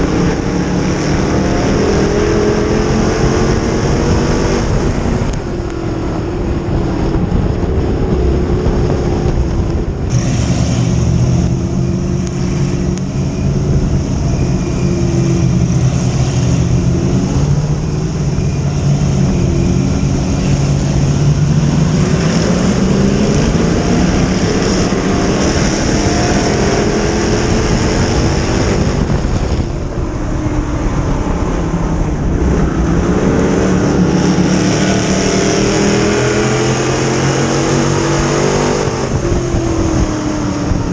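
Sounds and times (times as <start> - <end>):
race car engine running: 0.0 - 40.9.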